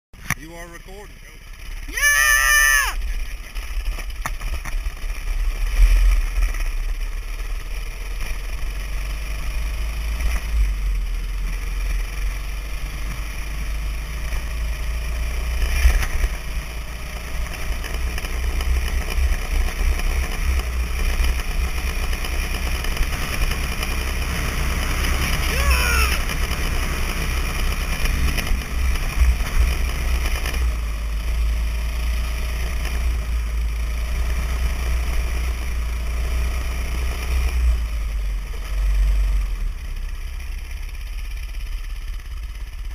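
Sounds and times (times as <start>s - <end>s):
dirt bike engine running: 0.2s - 42.9s.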